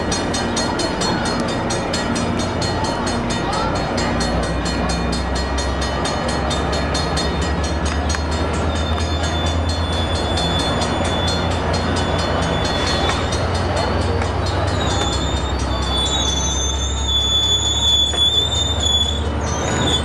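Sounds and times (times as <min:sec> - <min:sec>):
diesel engine rumble: 0:00.0 - 0:20.0.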